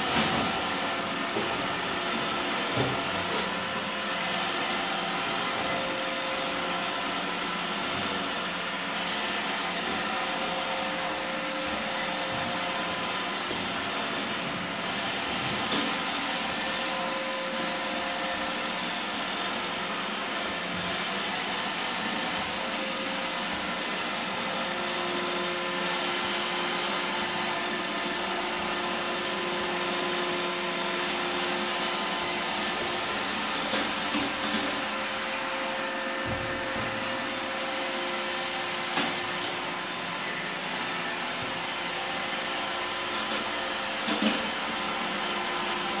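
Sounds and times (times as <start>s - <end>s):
robot vacuum running: 0.0s - 46.0s.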